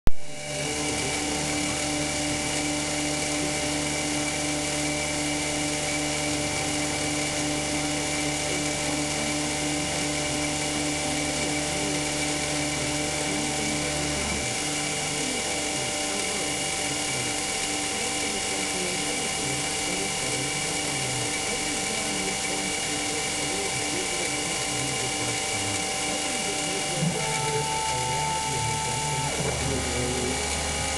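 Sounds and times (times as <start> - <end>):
high-pitched spindle whine: 0.1 - 30.9
machine hum: 0.1 - 30.9.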